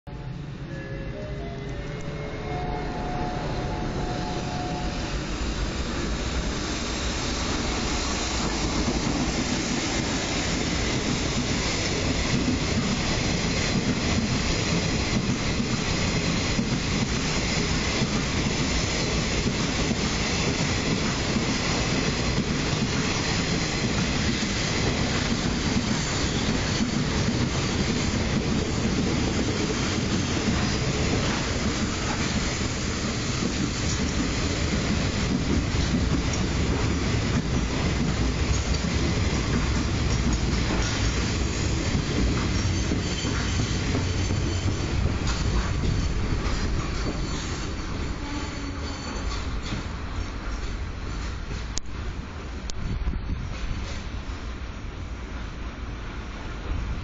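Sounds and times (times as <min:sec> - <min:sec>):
freight train wheels rumbling on rails: 0:00.1 - 0:57.0.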